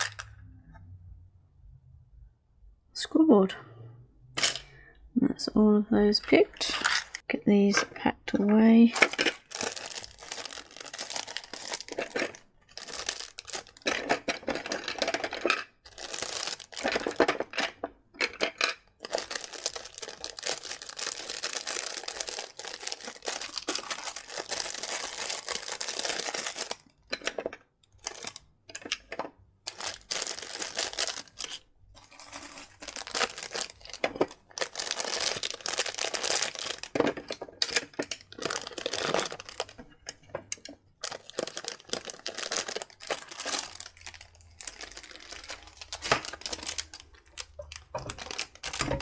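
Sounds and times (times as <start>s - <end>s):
plastic bags crinkling: 0.0s - 0.3s, 6.3s - 7.8s, 8.6s - 49.0s.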